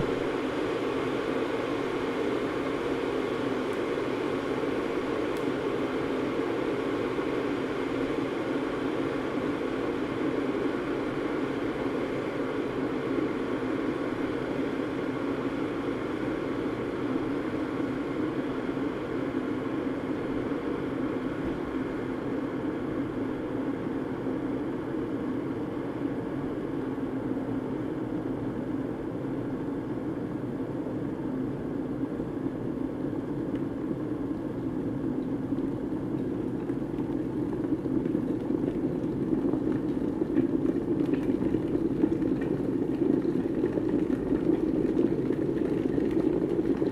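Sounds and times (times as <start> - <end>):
electric kettle heating water: 0.0 - 46.9.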